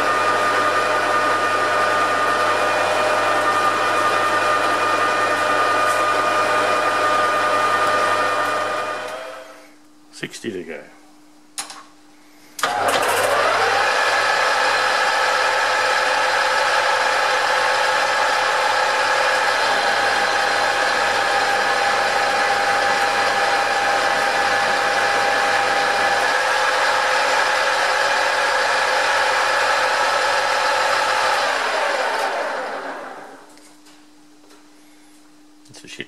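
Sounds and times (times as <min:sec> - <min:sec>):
metal lathe whining: 0:00.0 - 0:09.6, 0:12.6 - 0:33.4.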